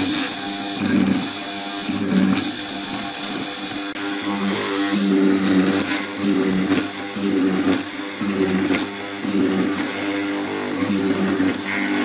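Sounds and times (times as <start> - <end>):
mortising machine cutting wood: 0.0 - 12.0.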